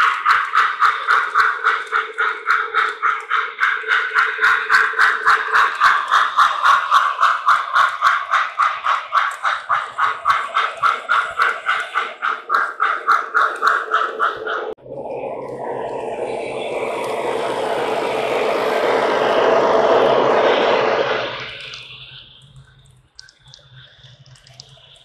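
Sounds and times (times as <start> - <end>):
model trains running: 0.0 - 25.0.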